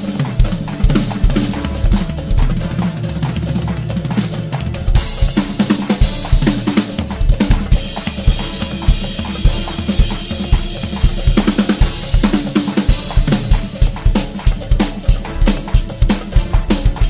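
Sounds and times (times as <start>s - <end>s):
bass drum strokes: 0.0s - 14.4s
backing track bass and keyboard: 0.0s - 17.0s.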